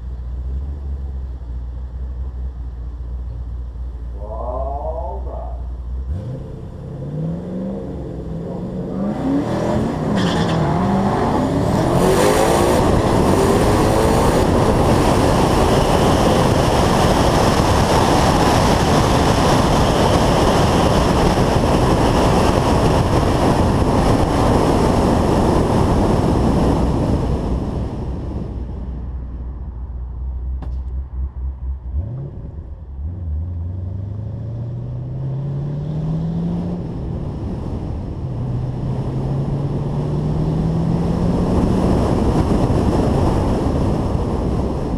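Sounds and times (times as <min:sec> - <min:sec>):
car engine at full throttle: 0:00.0 - 0:44.9.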